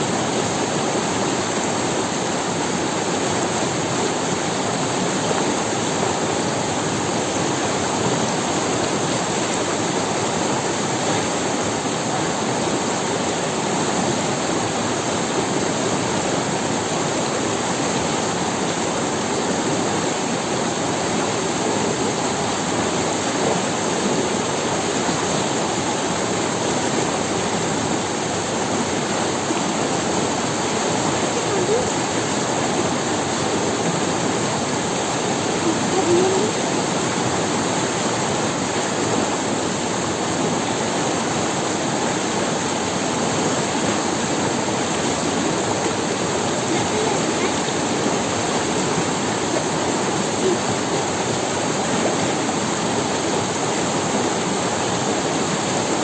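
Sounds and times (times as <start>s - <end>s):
river water running over stones: 0.0s - 56.0s.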